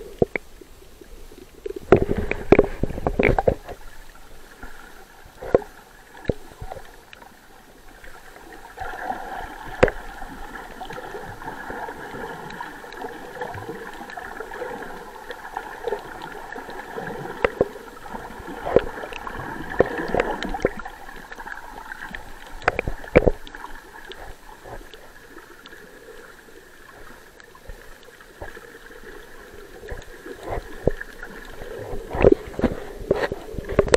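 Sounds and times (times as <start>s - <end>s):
water gurgling and sloshing underwater: 0.0s - 33.9s.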